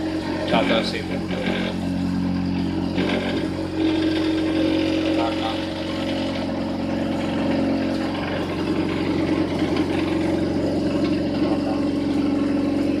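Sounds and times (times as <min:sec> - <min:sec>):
cotton candy machine motor humming: 0:00.0 - 0:13.0.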